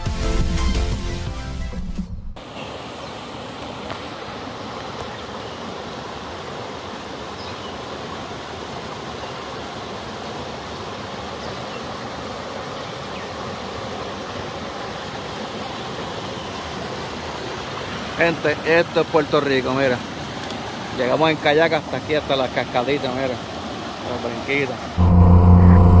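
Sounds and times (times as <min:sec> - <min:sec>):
water rushing over rocks: 0:02.4 - 0:25.0.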